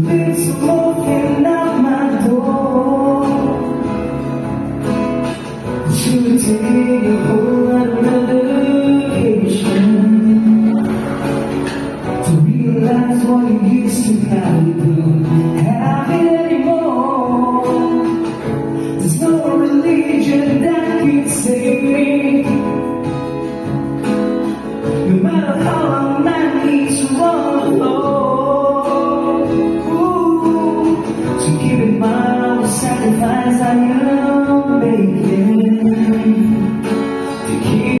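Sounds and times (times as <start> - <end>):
person singing: 0.0 - 4.4, 5.4 - 23.4, 25.0 - 38.0
guitar strumming chords: 0.0 - 38.0.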